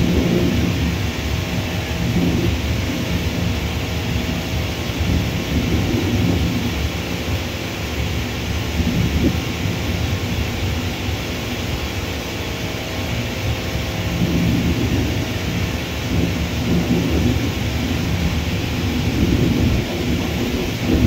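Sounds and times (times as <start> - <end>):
wind buffeting microphone: 0.0 - 11.2, 13.7 - 21.0
jet engines rumbling: 0.0 - 21.0.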